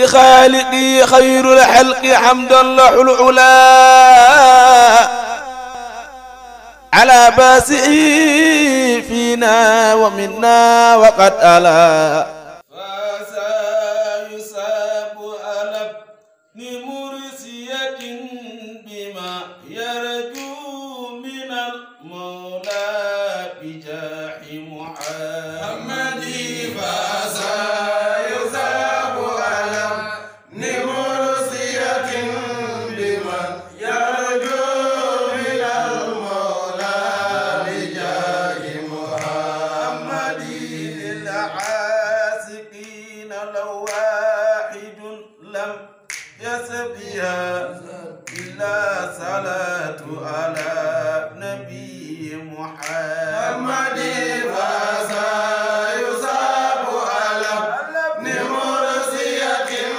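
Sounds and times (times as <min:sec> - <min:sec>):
men chanting devotional song: 0:00.0 - 0:59.9.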